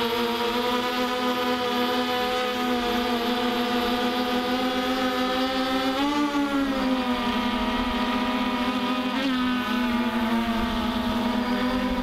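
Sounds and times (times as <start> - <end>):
quadcopter buzzing hum: 0.0 - 12.0.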